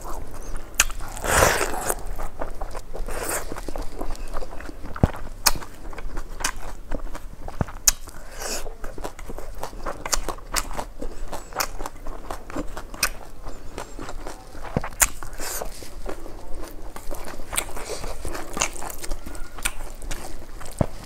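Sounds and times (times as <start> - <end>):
sharp clicks and small crunches: 0.0 - 8.2, 8.9 - 21.0
person chewing and smacking: 0.0 - 21.0.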